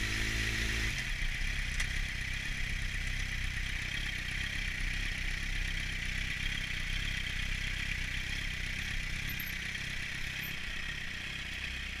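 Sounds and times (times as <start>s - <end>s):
motorcycle engine idling: 1.0s - 12.0s.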